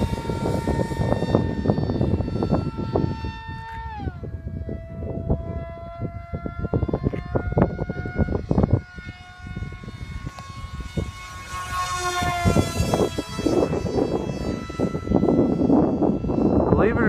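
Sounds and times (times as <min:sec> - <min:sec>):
rc plane motor whine: 0:00.0 - 0:17.0.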